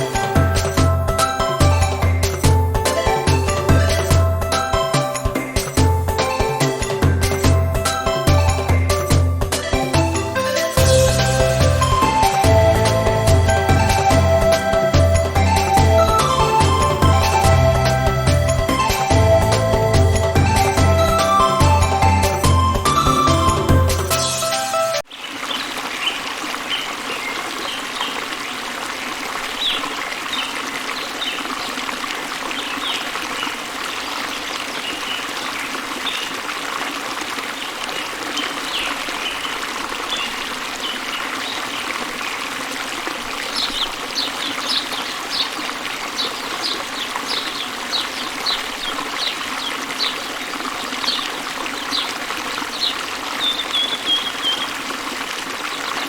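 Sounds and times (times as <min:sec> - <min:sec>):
stream running over rocks: 0:00.0 - 0:19.2, 0:25.0 - 0:56.0.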